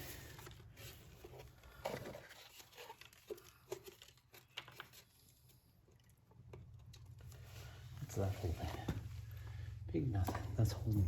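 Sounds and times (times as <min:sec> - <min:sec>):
faint clicks and rustles of tools: 0:00.0 - 0:09.5.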